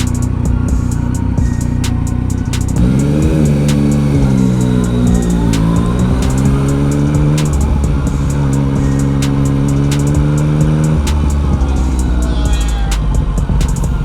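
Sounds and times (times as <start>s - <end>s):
background music: 0.0s - 14.0s
motorcycle engine running: 0.0s - 14.0s.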